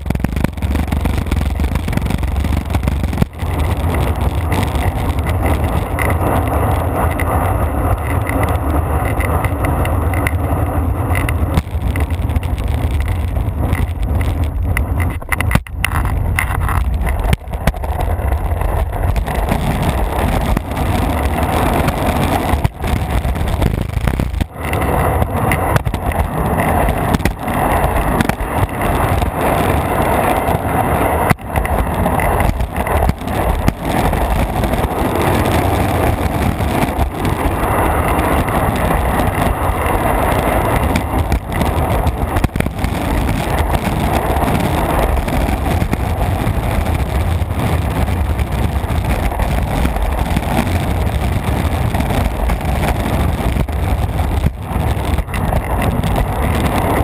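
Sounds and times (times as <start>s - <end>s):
skateboard wheels rolling on asphalt: 0.0s - 57.0s.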